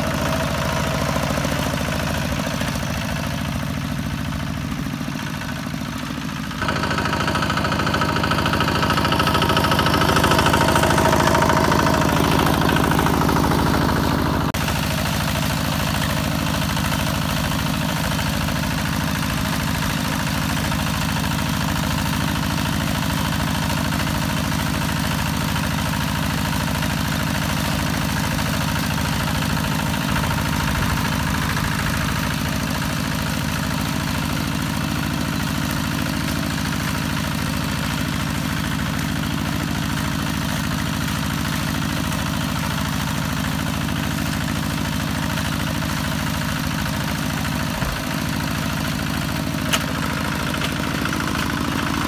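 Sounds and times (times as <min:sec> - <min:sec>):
diesel tractor engine running: 0:00.0 - 0:52.0
wheels working through mud: 0:00.0 - 0:52.0.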